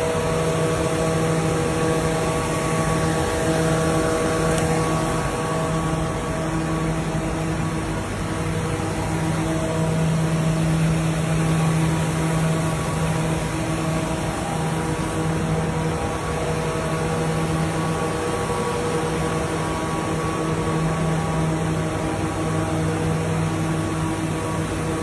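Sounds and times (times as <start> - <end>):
workshop machinery hum: 0.0 - 25.0.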